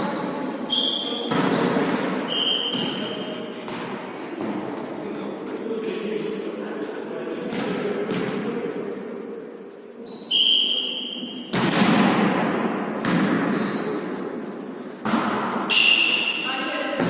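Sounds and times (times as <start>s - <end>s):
ball bouncing in echoing hall: 0.0s - 6.6s, 7.2s - 9.3s, 10.0s - 17.0s.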